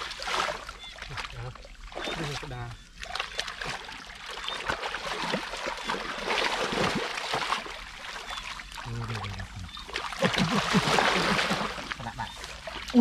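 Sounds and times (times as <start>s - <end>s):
hands splashing in muddy water: 0.0s - 13.0s.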